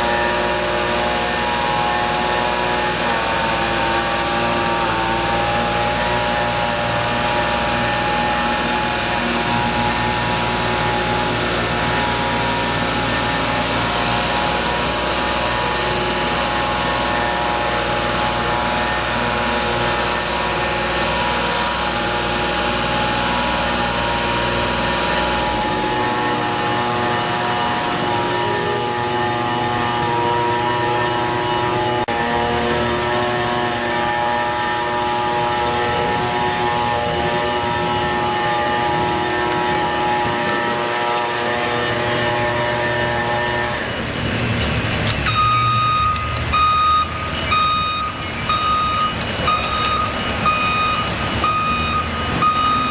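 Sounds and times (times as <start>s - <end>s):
engine machinery droning: 0.0s - 52.9s.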